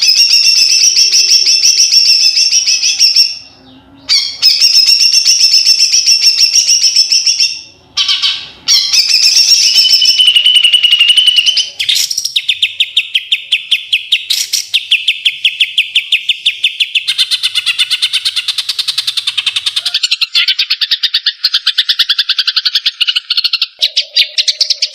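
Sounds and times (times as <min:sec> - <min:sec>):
bird singing: 0:00.0 - 0:24.9
second bird singing: 0:00.0 - 0:24.9.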